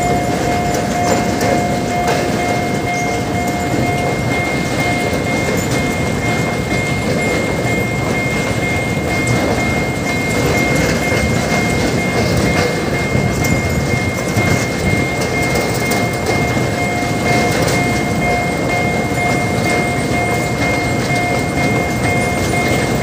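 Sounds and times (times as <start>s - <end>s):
crossing signal ringing: 0.0s - 23.0s
train rumbling: 0.0s - 23.0s
wheels clacking over rails: 0.0s - 23.0s.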